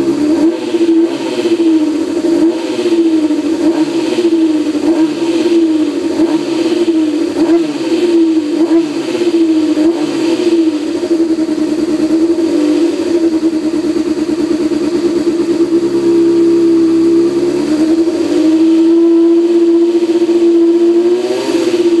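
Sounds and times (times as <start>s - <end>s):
motorcycle engine at steady revs: 0.0s - 22.0s.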